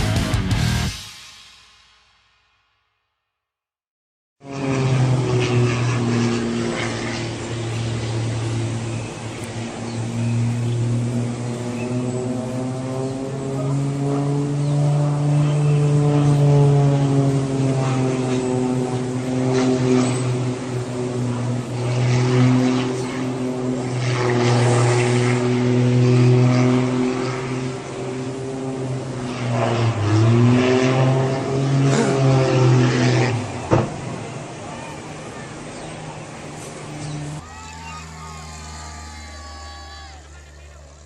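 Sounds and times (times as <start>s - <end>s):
propeller aircraft engine in flight: 4.4s - 41.0s.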